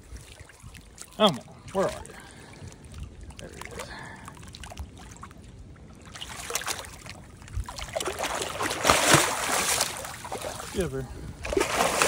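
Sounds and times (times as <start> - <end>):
wind rumble on microphone: 0.0 - 6.1, 6.9 - 8.8, 10.1 - 12.0
creek water splashing: 0.0 - 12.0.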